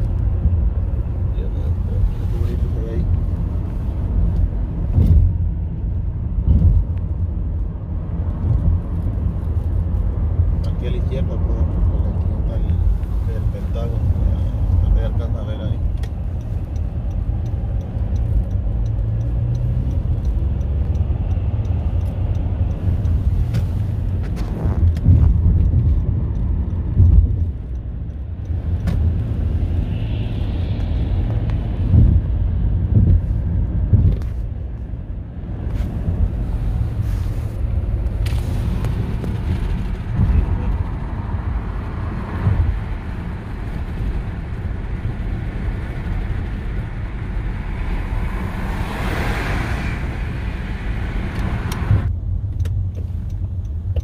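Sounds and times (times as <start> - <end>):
tyre and engine rumble: 0.0 - 54.0.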